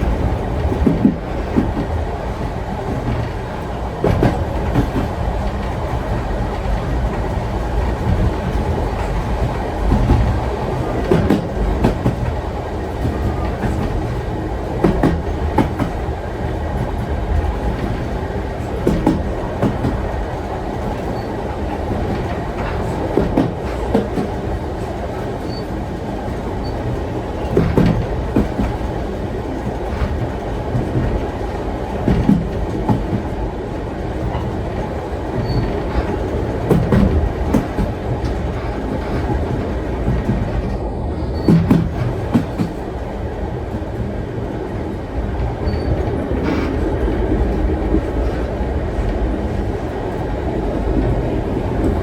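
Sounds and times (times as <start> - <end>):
train wheels rumbling: 0.0 - 52.0
wheels clacking over rail joints: 0.0 - 52.0.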